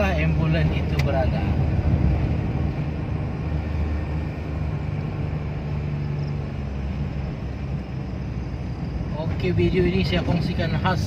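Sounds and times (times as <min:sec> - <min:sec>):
tyre and road noise: 0:00.0 - 0:11.0
vehicle engine hum: 0:00.0 - 0:11.0.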